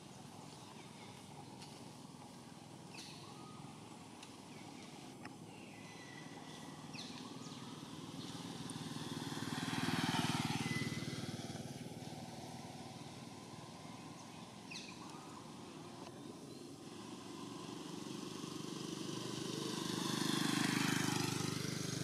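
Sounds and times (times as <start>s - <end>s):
motor vehicle passing: 0.0s - 22.0s.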